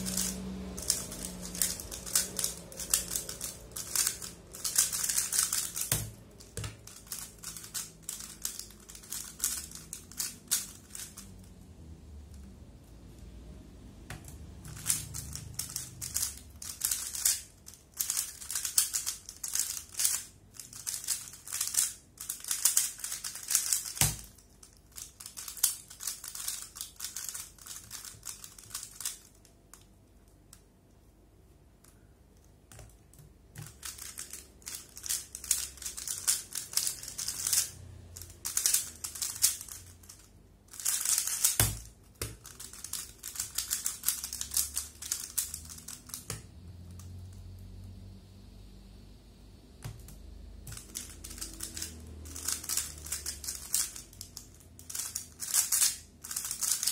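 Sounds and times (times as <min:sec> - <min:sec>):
plastic puzzle cube clicking: 0:00.0 - 0:11.2, 0:14.7 - 0:29.9, 0:33.6 - 0:47.1, 0:50.7 - 0:56.9.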